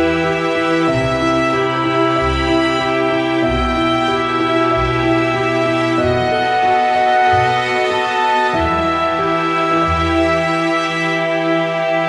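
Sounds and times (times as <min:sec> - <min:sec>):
ambient music of sustained chords: 0:00.0 - 0:12.0.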